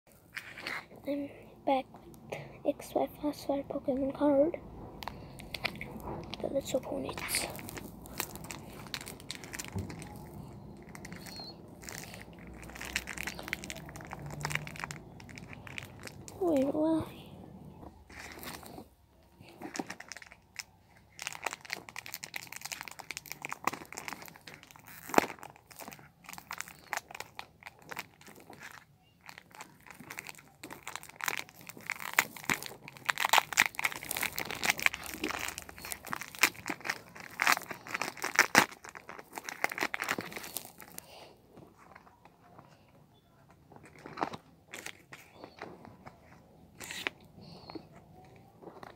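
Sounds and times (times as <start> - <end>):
foil wrapper crinkling: 5.0 - 17.0, 18.0 - 42.9, 43.6 - 48.9.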